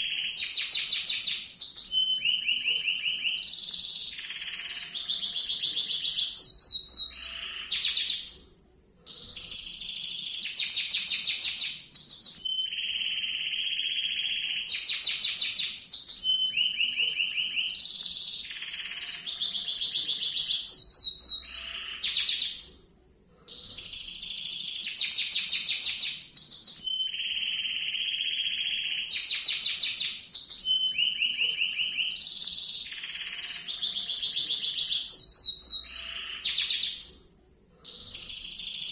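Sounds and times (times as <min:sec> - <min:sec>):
canary singing trills: 0:00.0 - 0:08.4, 0:09.0 - 0:22.7, 0:23.5 - 0:37.1, 0:37.8 - 0:38.9.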